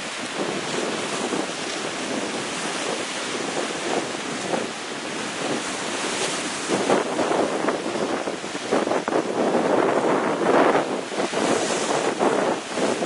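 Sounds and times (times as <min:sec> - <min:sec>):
sea waves breaking on rocks: 0:00.0 - 0:13.0.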